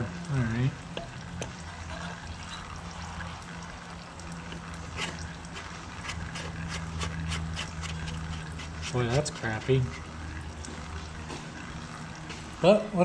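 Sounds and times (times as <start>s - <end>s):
sharp drip ticks: 0.0s - 12.6s
oil trickling and dripping: 0.0s - 13.0s.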